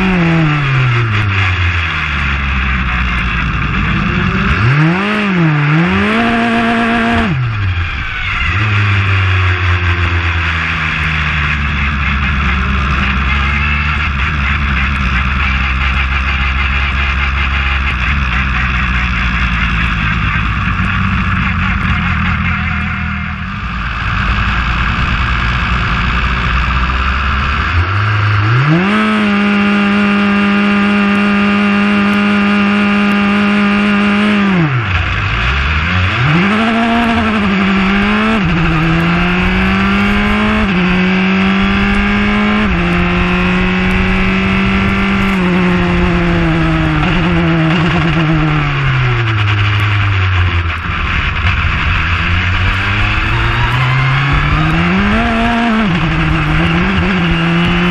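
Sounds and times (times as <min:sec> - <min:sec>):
racing car engine revving: 0:00.0 - 0:57.9.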